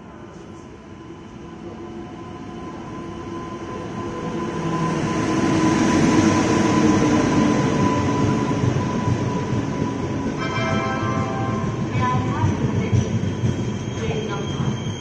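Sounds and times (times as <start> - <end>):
train passing along platform: 0.0 - 15.0.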